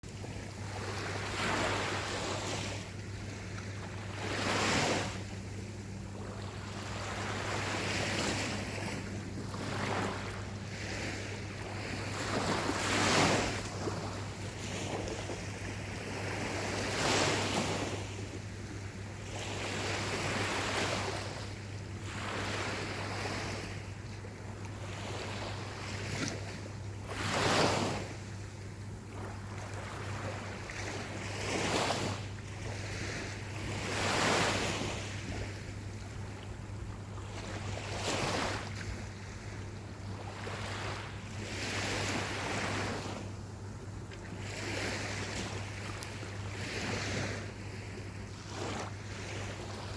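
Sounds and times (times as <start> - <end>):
ocean waves breaking on beach: 0.0 - 49.9.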